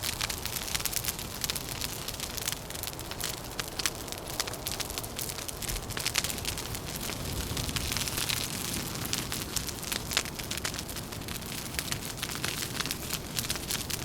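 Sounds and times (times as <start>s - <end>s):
low rush of wind: 0.0s - 14.0s
wood fire crackling: 0.0s - 14.0s.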